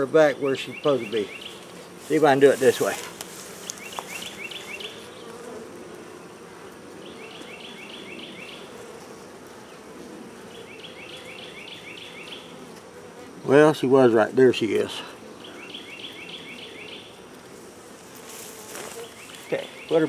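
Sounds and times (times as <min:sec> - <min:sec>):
honey bees humming: 0:00.0 - 0:20.0.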